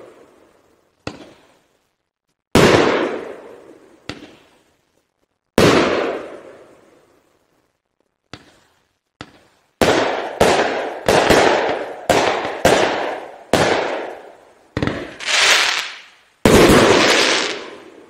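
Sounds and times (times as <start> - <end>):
fireworks bangs: 0.0 - 1.8, 2.5 - 4.7, 5.5 - 18.0.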